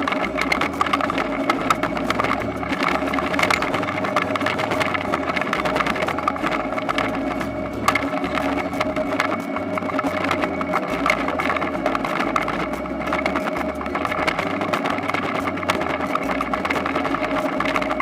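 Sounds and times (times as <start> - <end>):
harvester engine running: 0.0 - 18.0
machine clattering and rattling: 0.0 - 18.0.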